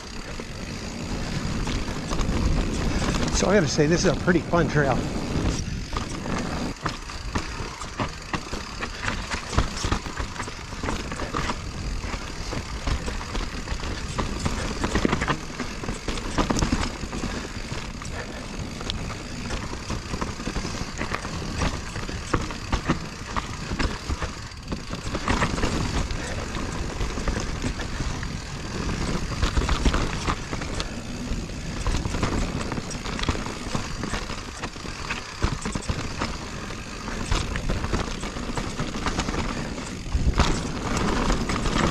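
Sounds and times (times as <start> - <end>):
bike clattering over bumps: 0.0 - 41.9
bike tyre rush on dirt: 0.0 - 41.9.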